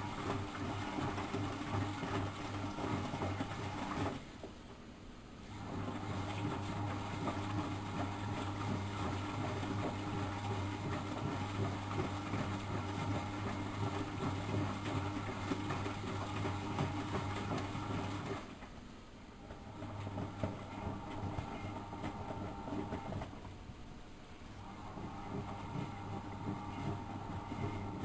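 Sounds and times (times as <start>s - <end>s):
washing machine running: 0.0s - 4.6s, 5.4s - 28.0s.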